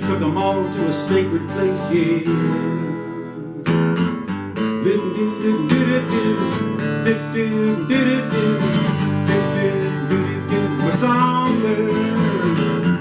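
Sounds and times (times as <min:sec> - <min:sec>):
acoustic guitar strumming: 0:00.0 - 0:13.0
bending melody line: 0:00.0 - 0:13.0.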